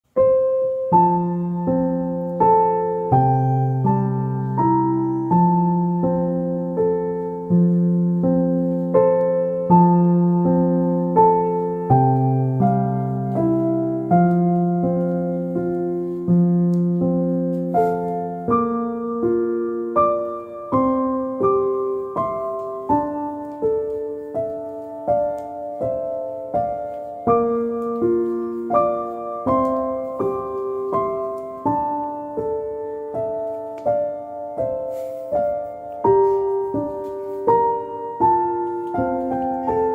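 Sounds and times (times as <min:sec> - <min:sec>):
gentle solo piano music: 0:00.0 - 0:39.9.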